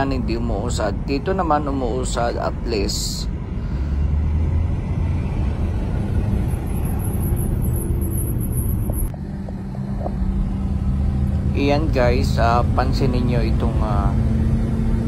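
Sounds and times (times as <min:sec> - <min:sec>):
road and engine rumble inside car: 0:00.0 - 0:15.0
steady low hum: 0:00.0 - 0:15.0.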